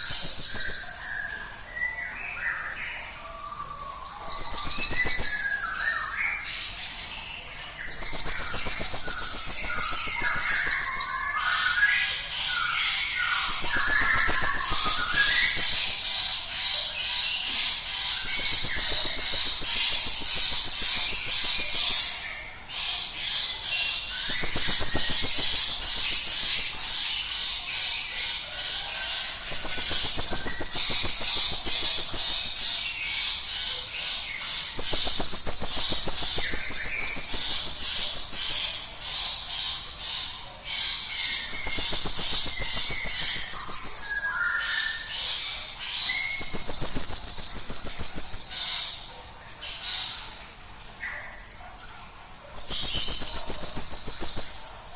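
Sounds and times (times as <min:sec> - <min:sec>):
bird rapid trilled song: 0:00.0 - 0:02.7, 0:04.2 - 0:40.3, 0:41.2 - 0:49.1, 0:52.5 - 0:54.9.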